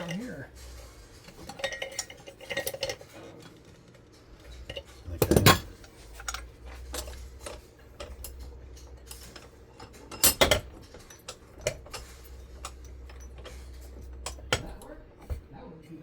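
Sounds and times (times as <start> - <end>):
metal tools clinking: 0.0 - 15.5
low steady hum: 0.0 - 16.0.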